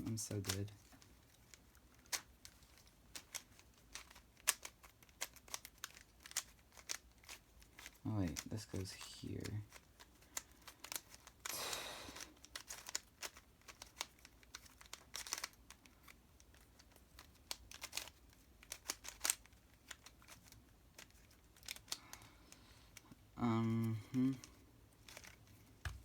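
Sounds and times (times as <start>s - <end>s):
plastic puzzle cube clicking: 0.1s - 11.5s, 12.1s - 22.3s, 23.8s - 26.0s.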